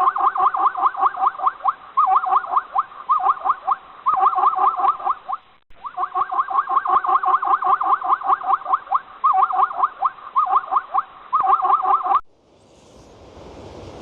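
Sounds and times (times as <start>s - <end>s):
animal squeaking: 0.2s - 12.2s.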